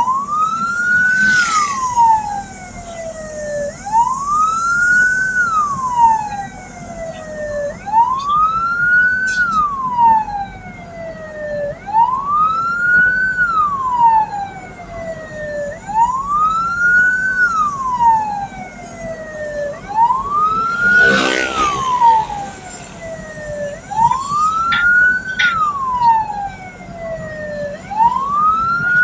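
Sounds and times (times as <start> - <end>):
vehicle siren wailing: 0.0 - 29.0.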